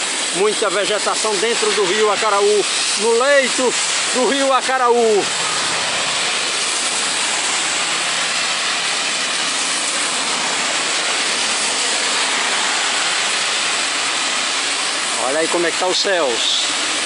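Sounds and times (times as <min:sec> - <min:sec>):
rain falling on wet road: 0:00.0 - 0:17.0.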